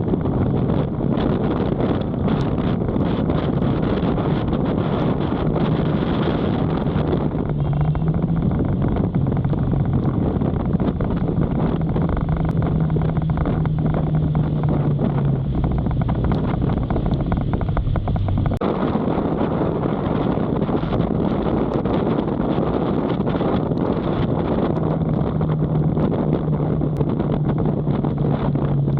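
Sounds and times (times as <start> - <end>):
motorcycle engine hum: 0.0 - 28.9
wind rushing over microphone: 0.0 - 28.9.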